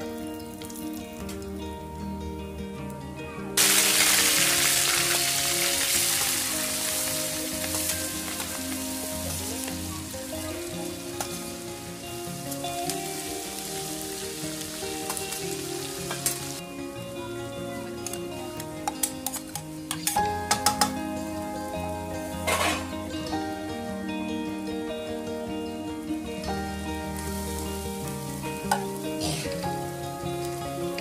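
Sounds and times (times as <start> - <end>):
oil sizzling and popping: 0.0 - 2.0, 2.8 - 31.0
background music: 0.0 - 31.0.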